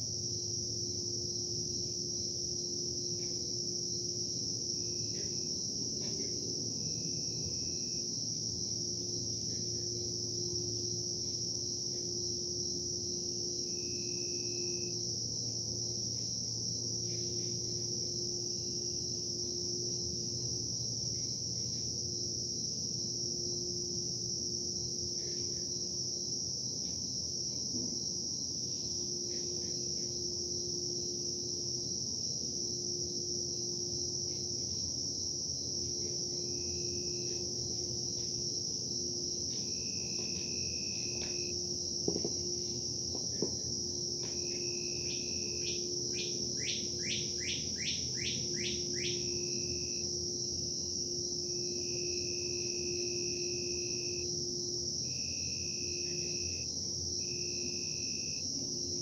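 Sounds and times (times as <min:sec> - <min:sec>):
insect trill: 0:00.0 - 0:59.0.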